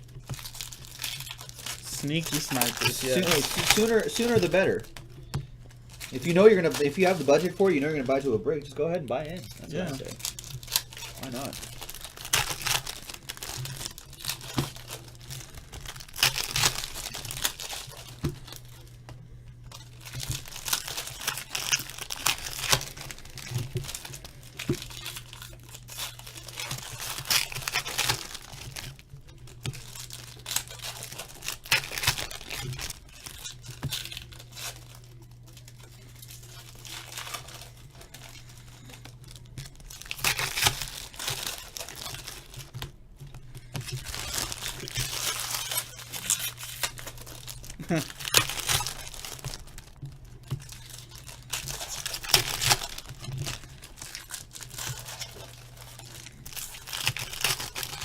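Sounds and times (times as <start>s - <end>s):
card pack wrappers tearing and crinkling: 0.0s - 58.0s
steady low hum: 0.0s - 58.0s.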